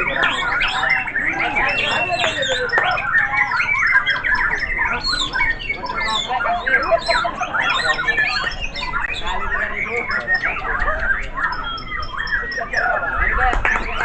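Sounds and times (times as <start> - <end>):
songbirds singing: 0.0 - 14.0.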